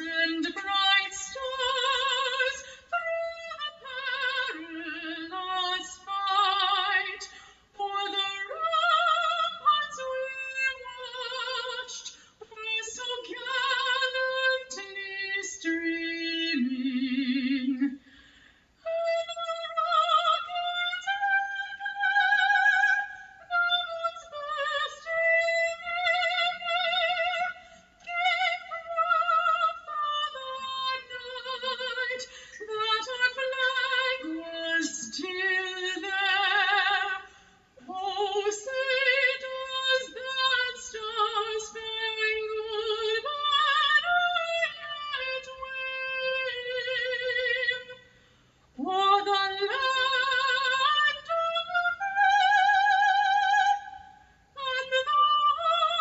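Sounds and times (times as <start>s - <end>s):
woman singing with vibrato: 0.0s - 18.2s, 18.8s - 56.0s.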